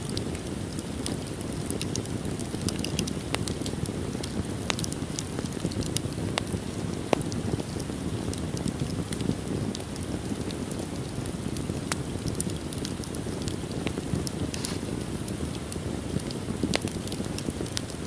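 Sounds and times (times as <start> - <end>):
sharp pops from fire: 0.0 - 18.0
wood fire crackling: 0.0 - 18.0.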